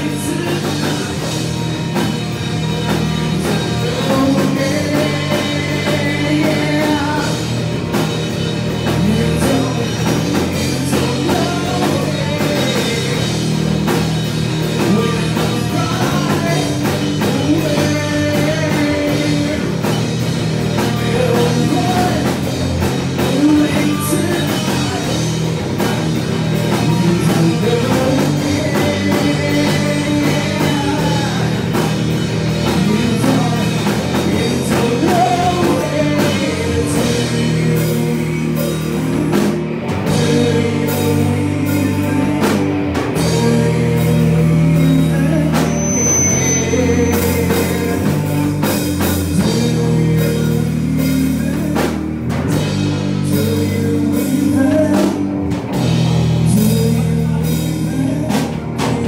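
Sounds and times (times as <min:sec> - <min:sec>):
bass guitar: 0:00.0 - 0:59.0
distorted electric guitar: 0:00.0 - 0:59.0
driving rock drums: 0:00.0 - 0:59.0.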